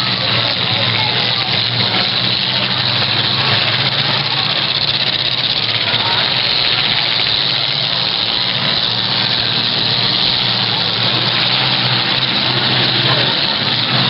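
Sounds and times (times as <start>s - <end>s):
car engines droning: 0.0s - 14.0s.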